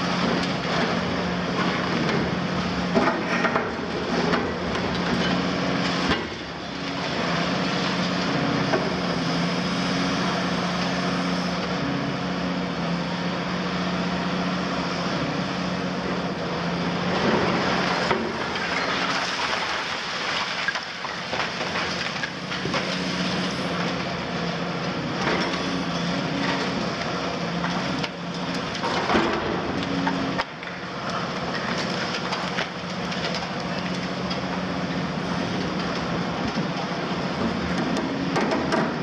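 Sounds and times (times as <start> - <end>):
diesel engine under load: 0.0 - 39.0.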